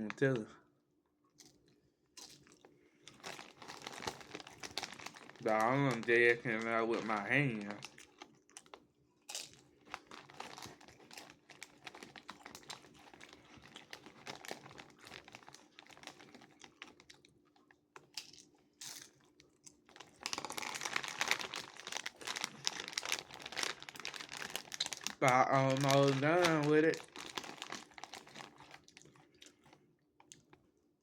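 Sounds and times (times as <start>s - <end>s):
chip bag crinkling: 2.2s - 30.6s.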